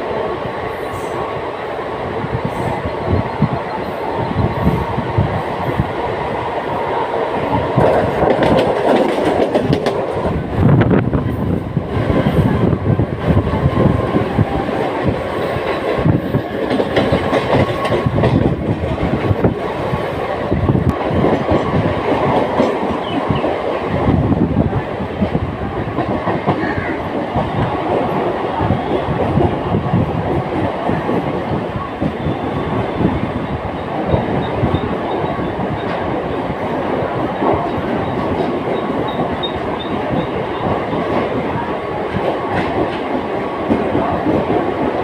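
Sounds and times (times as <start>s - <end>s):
train wheels clattering on rails: 7.3s - 45.0s.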